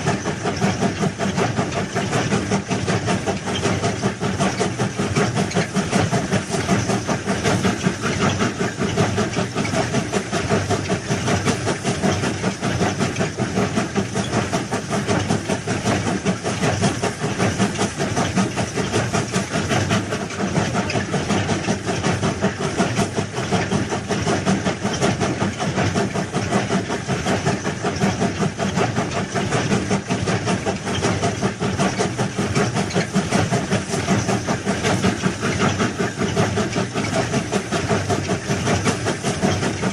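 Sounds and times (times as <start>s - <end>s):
heavy engine rattling: 0.0s - 39.9s.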